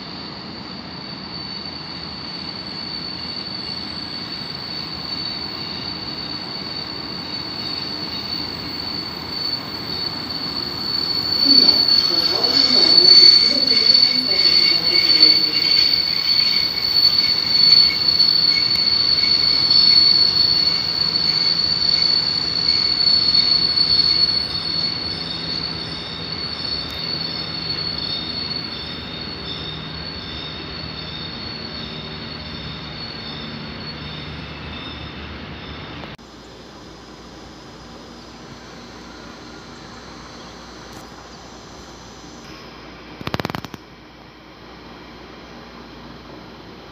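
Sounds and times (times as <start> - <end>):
train wheels squealing: 0.0 - 43.6
train rolling rumble: 0.0 - 46.9.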